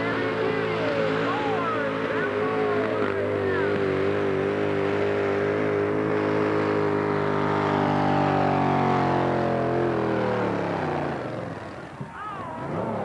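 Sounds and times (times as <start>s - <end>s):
truck engine under full load: 0.0s - 13.0s.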